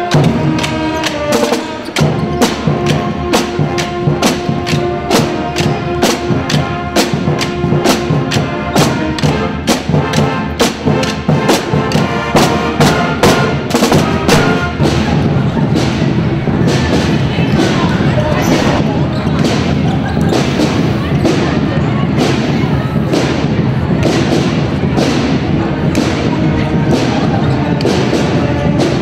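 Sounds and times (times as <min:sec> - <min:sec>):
pep band playing: 0:00.0 - 0:29.0
steady drum beat: 0:00.0 - 0:29.0.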